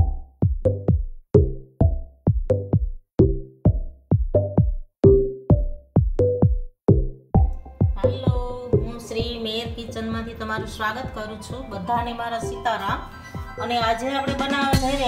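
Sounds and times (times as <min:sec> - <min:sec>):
electronic music with drum-machine beat: 0:00.0 - 0:15.0.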